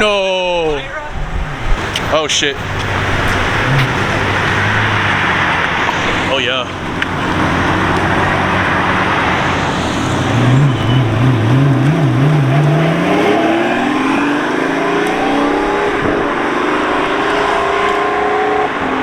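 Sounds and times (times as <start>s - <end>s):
sports car engine revving: 1.4s - 19.0s.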